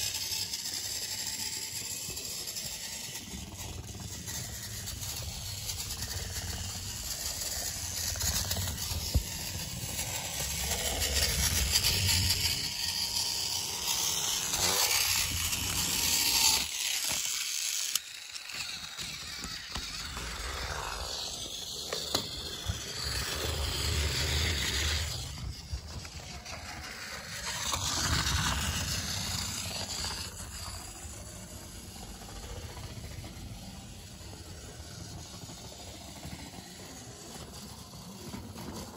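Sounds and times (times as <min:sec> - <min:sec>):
toy trains whirring and rattling: 0:00.0 - 0:38.9.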